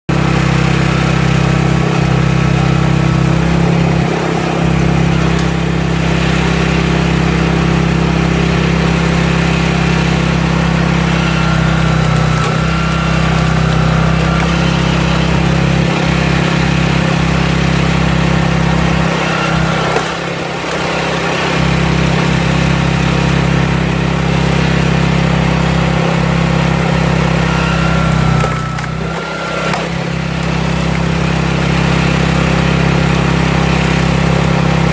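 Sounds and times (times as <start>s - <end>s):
small engine running: 0.1s - 34.9s
wood cracking and splintering: 0.2s - 34.9s.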